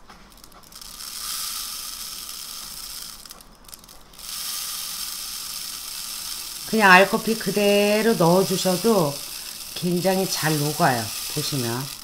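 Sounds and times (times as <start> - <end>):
coffee granules pouring: 0.8 - 12.0.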